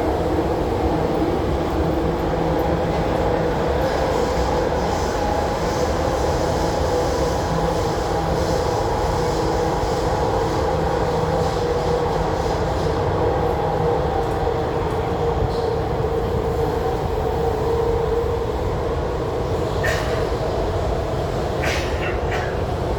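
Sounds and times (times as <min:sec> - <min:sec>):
steady train hum: 0:00.0 - 0:22.9
train wheels rumbling on rail: 0:00.0 - 0:22.9.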